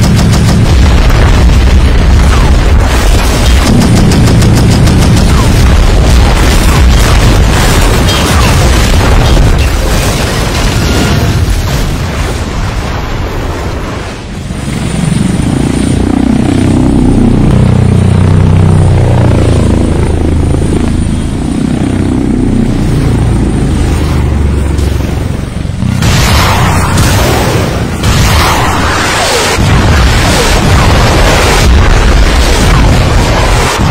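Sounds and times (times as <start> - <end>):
drone propellers whirring: 0.0 - 33.9
heavy explosions and blast rumble: 0.0 - 33.9.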